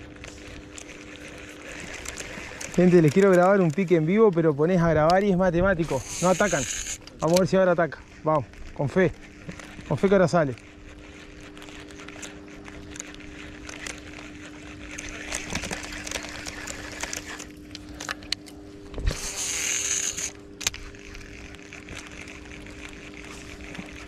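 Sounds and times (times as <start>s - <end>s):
fishing reel spool whirring: 0.0s - 24.0s
fishing reel clicks: 0.2s - 24.0s.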